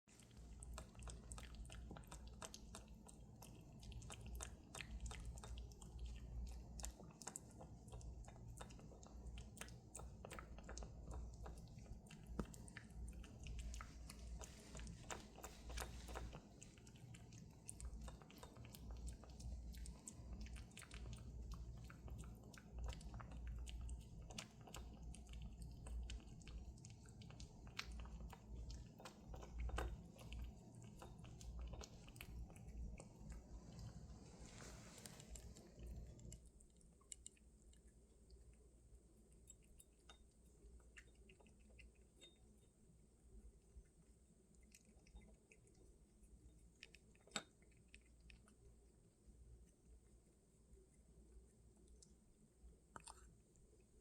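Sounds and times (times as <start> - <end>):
cat licking and smacking: 0.1 - 54.0.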